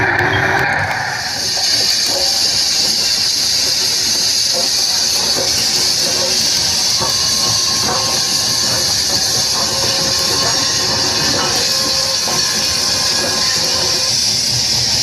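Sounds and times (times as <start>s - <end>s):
train running noise: 0.0s - 15.0s
steam hissing: 0.8s - 15.0s.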